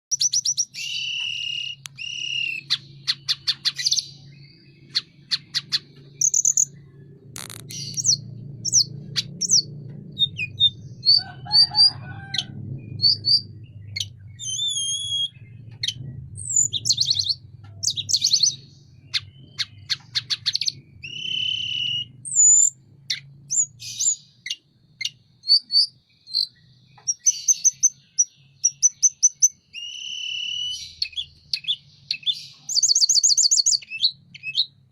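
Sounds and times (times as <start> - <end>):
songbird singing: 0.0 - 34.9
faint low hum: 0.5 - 29.6.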